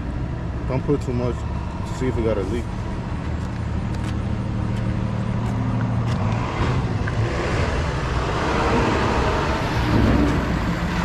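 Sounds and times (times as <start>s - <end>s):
traffic noise: 0.0s - 11.0s
vehicle engine running: 0.0s - 11.0s.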